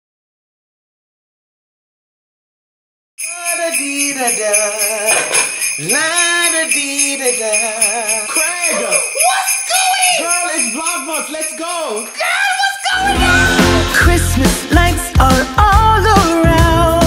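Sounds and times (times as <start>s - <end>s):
sleigh bells jingling: 3.2s - 17.0s.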